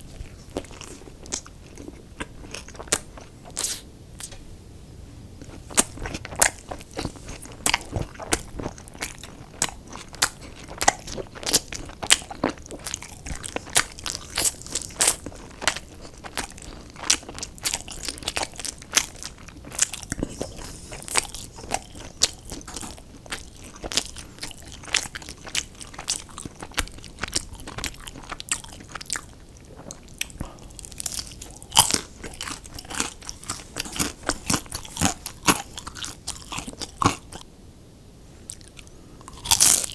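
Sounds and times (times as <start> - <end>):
crunching of fried food: 0.0 - 3.8, 5.4 - 37.4, 38.5 - 39.9
wet chewing: 5.4 - 37.4.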